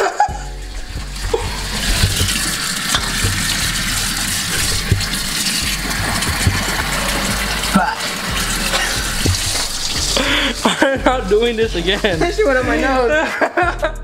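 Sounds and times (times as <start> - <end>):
faucet running into metal sink: 0.4 - 12.6
water splashing on hands and face: 0.8 - 12.4.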